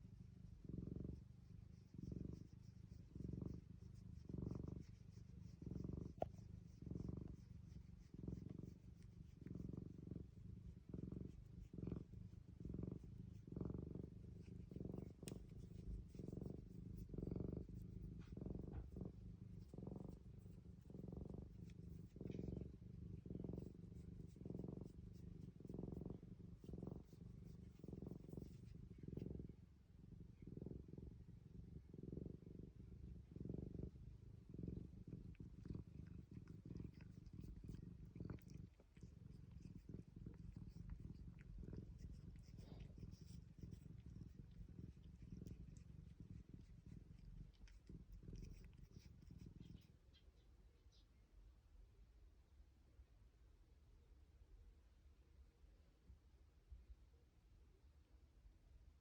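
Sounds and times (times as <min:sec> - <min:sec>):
cat purring: 0:00.0 - 0:52.2.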